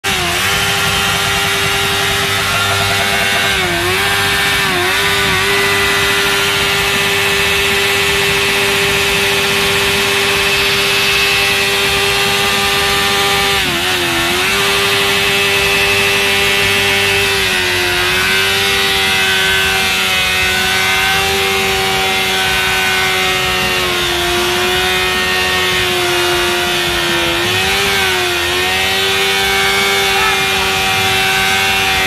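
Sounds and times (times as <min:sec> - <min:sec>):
motorcycle engine at high revs: 0:00.0 - 0:32.0.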